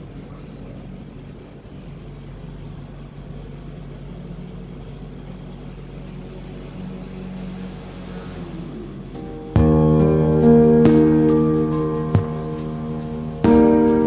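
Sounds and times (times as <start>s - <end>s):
held low tones: 0.0s - 14.0s
low mechanical hum: 0.0s - 14.0s.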